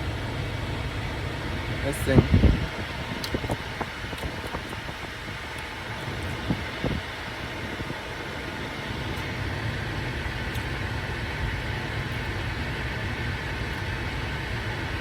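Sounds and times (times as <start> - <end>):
air-conditioning fan: 0.0 - 15.0
car engine idling: 0.0 - 15.0.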